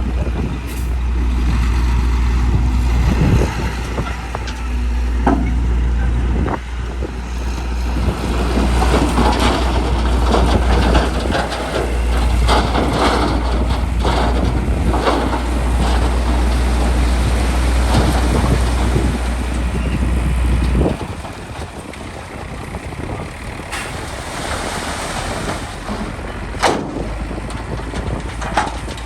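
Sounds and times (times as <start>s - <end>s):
diesel machinery engine drone: 0.0s - 29.0s.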